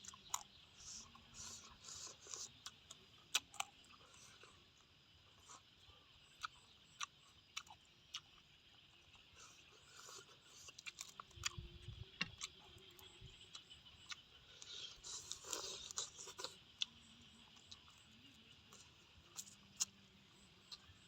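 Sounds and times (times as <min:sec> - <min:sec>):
person chewing with crunching clicks: 0:00.0 - 0:21.0.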